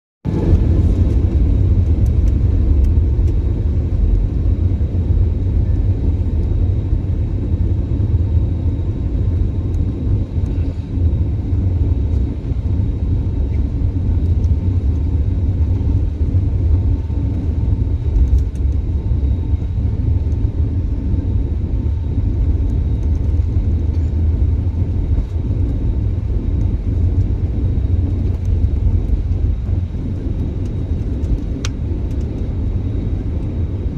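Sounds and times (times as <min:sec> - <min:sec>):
jet engines rumbling: 0:00.2 - 0:33.9.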